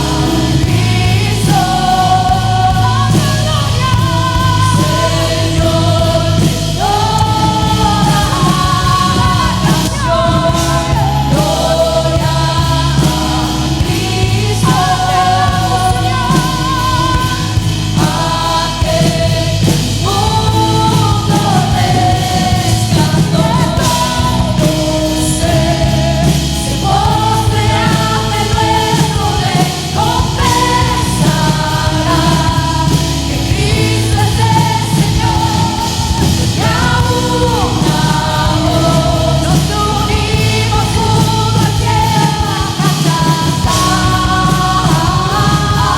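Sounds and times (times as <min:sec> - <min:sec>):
band with steady bass: 0:00.0 - 0:45.9
group singing worship song: 0:00.0 - 0:45.9.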